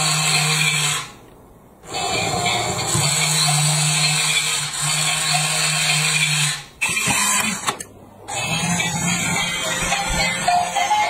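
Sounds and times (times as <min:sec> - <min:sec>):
toy train motor whirring: 0:00.0 - 0:01.2, 0:01.8 - 0:07.7, 0:08.3 - 0:11.0.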